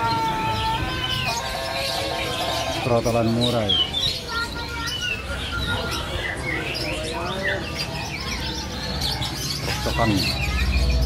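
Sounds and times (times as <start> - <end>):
faint voices murmuring: 0.0 - 11.0
songbirds chirping and calling: 0.0 - 11.0.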